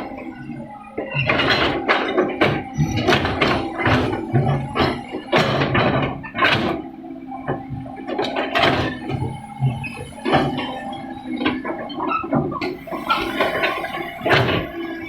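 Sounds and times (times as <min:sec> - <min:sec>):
excavator engine humming: 0:00.0 - 0:15.0
metal clanks and knocks: 0:01.0 - 0:15.0.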